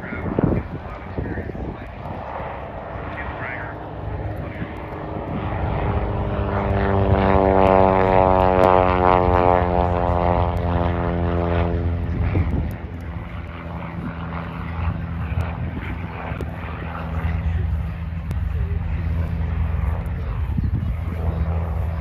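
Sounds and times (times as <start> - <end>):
propeller plane droning overhead: 0.0 - 22.0.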